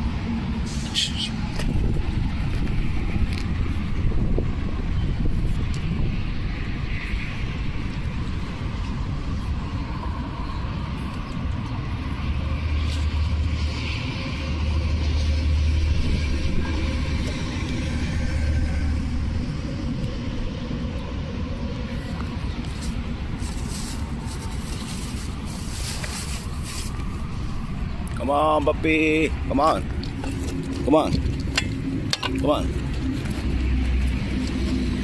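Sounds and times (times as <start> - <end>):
outdoor traffic noise: 0.0 - 35.0
vehicle passing rumble: 0.0 - 35.0.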